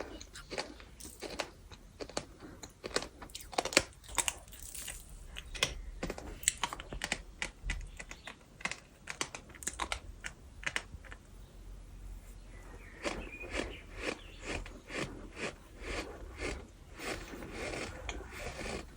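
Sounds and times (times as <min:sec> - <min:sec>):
bird sand crunching when chewed: 0:00.0 - 0:10.9, 0:12.8 - 0:18.9.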